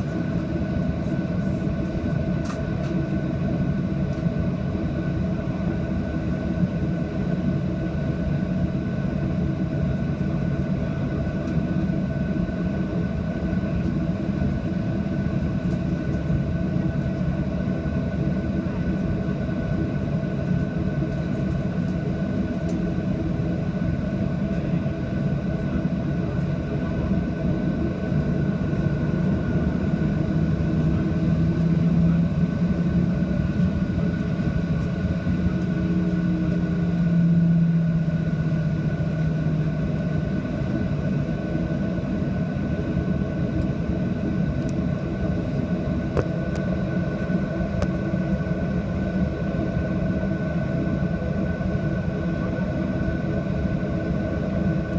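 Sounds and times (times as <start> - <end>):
jet engines heard from cabin: 0.0 - 54.9.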